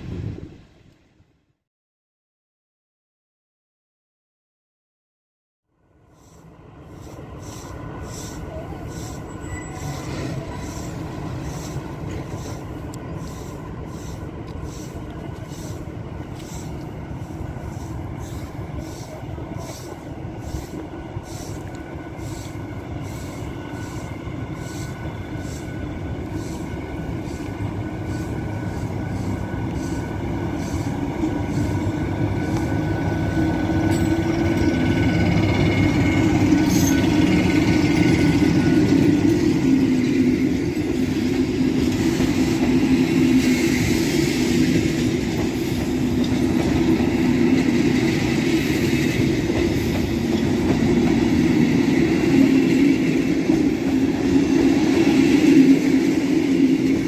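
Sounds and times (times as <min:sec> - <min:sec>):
electric locomotive rumbling: 0:05.8 - 0:57.0.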